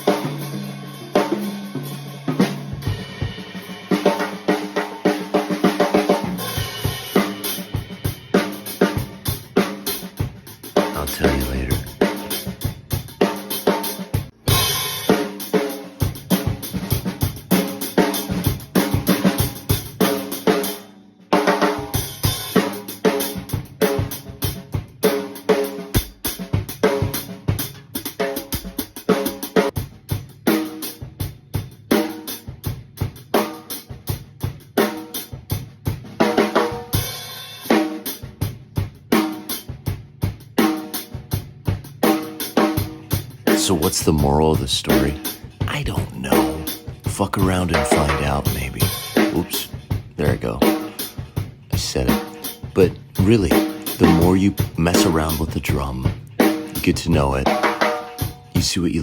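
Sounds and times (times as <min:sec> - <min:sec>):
drum kit groove: 0:00.0 - 0:59.0.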